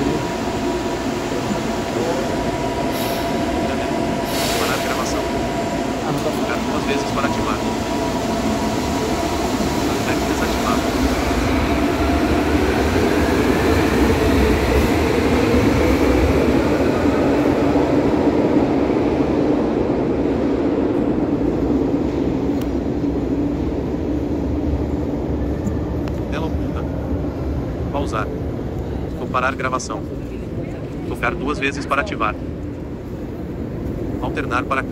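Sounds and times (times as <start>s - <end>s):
electric train passing: 0.0s - 34.9s.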